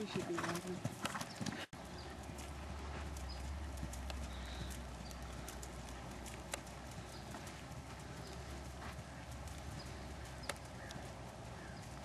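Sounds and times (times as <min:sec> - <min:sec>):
horse hoofbeats on sand: 0:00.0 - 0:12.0
steady low rumble: 0:01.8 - 0:12.0.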